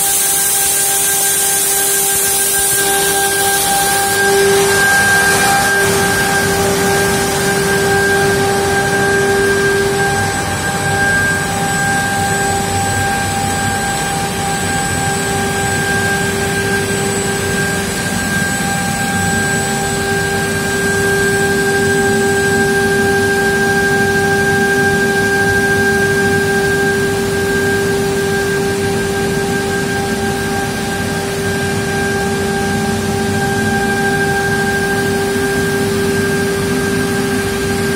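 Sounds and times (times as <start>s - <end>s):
machine drone with high whine: 0.0s - 37.9s.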